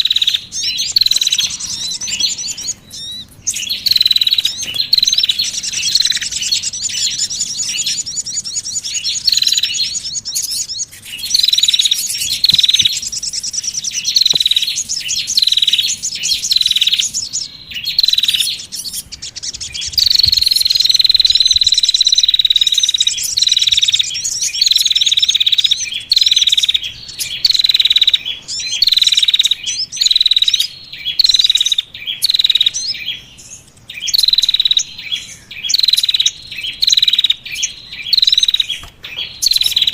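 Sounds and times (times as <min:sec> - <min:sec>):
songbird lure calls: 0:00.0 - 0:39.9.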